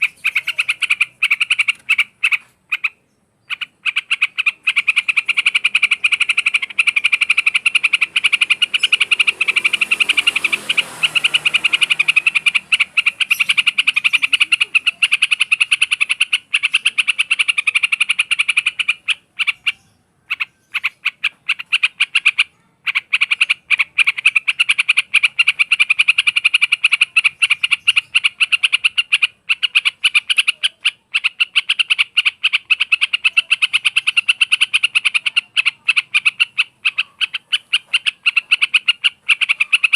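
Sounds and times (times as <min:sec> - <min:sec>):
bird calling in clicking notes: 0:00.0 - 0:39.9.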